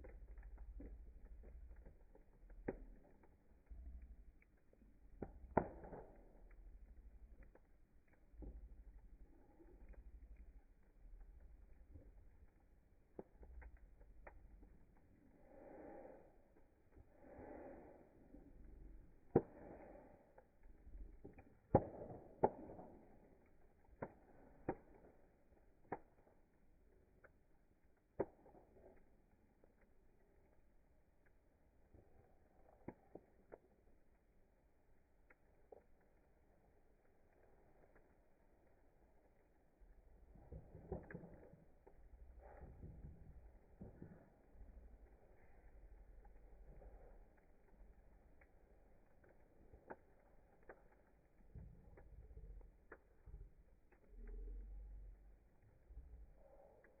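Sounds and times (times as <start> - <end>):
loud fire snaps: 0.0 - 18.2, 19.0 - 34.3, 34.9 - 57.0
low fire rumble: 0.0 - 57.0
wood fire crackling: 0.0 - 57.0.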